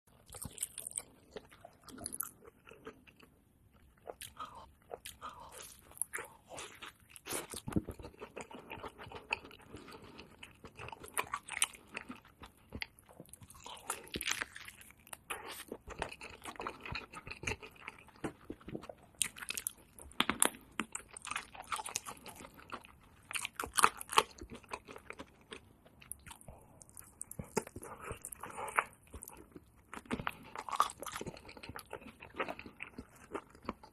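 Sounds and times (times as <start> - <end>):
wet chewing: 0.1 - 33.9.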